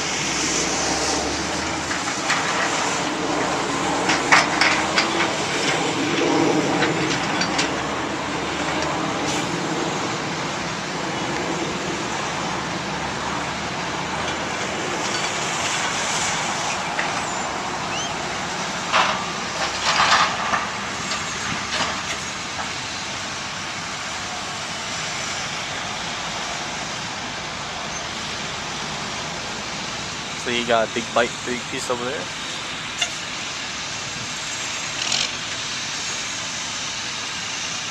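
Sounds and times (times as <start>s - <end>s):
diesel engines running: 0.0s - 37.9s.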